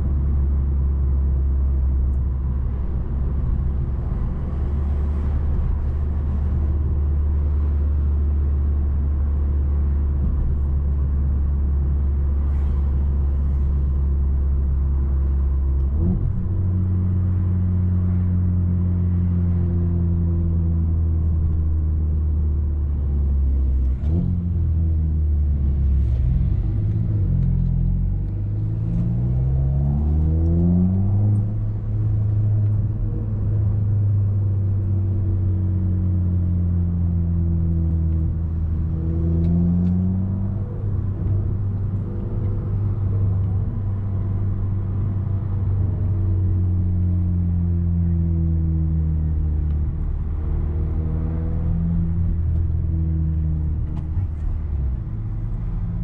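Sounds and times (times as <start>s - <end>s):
car engine drone: 0.0s - 56.0s.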